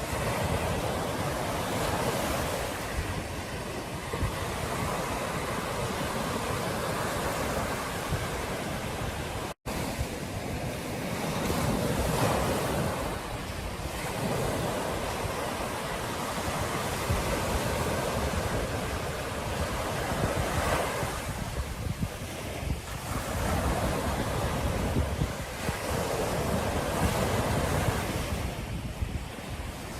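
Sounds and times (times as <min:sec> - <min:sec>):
ocean surf on beach: 0:00.0 - 0:29.9
wind buffeting microphone: 0:00.0 - 0:29.9.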